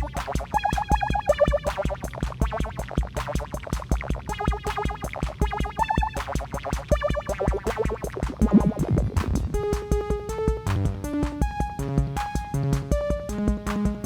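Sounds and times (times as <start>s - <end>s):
analog synthesizer lines: 0.0s - 14.0s
drum machine beat: 0.0s - 14.0s.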